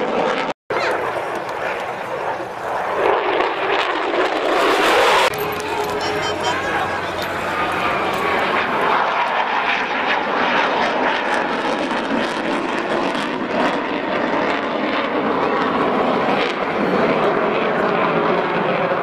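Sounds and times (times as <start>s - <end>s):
fighter jet flying past: 0.0s - 19.0s.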